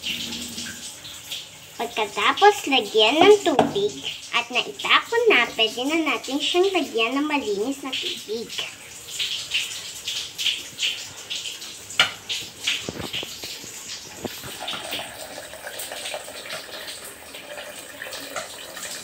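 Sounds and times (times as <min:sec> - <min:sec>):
water running into metal pot: 0:00.0 - 0:19.0.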